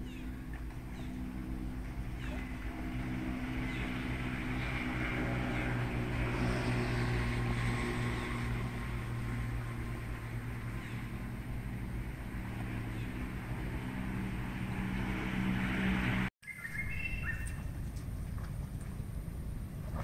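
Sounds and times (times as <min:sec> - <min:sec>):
distant engine hum: 0:00.0 - 0:20.0.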